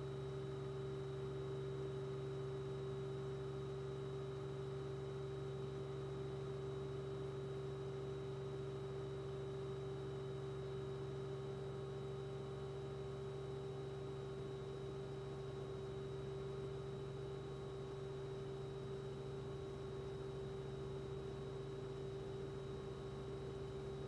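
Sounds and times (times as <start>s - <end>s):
steady hum of constant tones: 0.0s - 24.0s.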